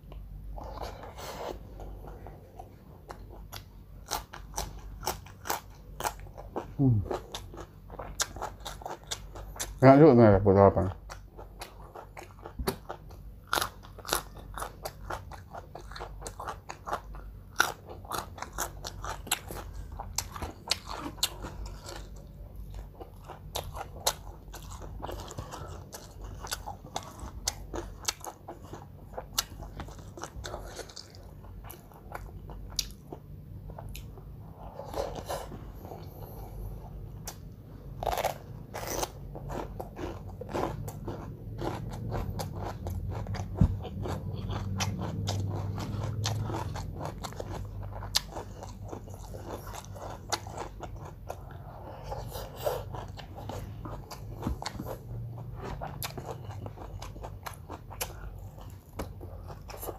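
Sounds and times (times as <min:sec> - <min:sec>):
person chewing crunchy food: 0:00.0 - 0:09.8, 0:10.9 - 0:59.9.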